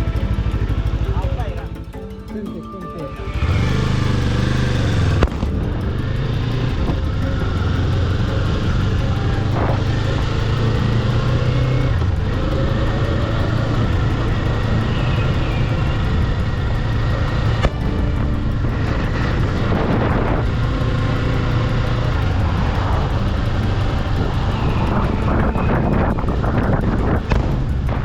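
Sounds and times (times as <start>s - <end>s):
motorcycle engine running: 0.0s - 2.2s, 3.2s - 28.0s
wind rushing noise: 3.3s - 28.0s.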